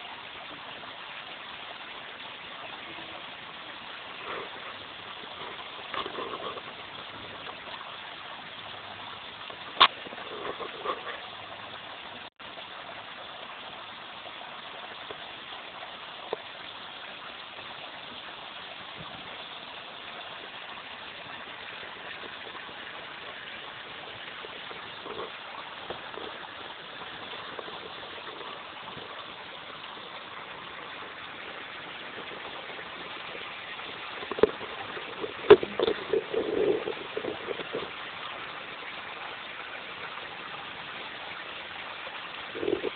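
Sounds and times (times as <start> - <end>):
spring water flowing: 0.0 - 42.9.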